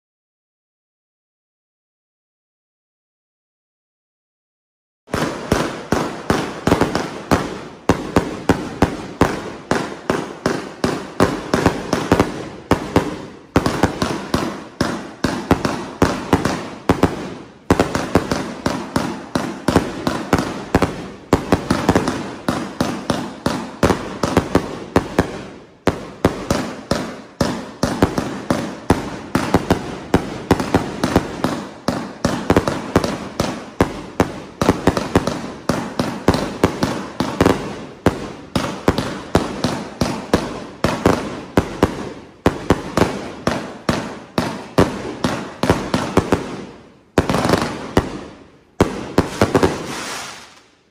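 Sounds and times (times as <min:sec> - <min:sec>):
fireworks launching and bursting: 0:05.1 - 0:50.9.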